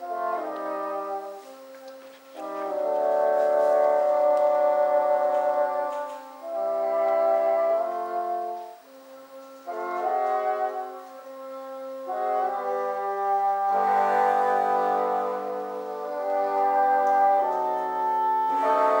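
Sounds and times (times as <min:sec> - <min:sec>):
bassoon ensemble playing chords: 0:00.0 - 0:19.0.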